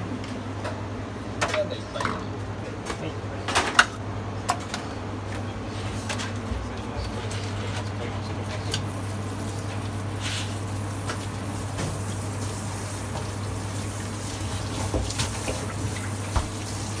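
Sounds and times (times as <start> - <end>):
kitchen machinery hum and hiss: 0.0 - 17.0.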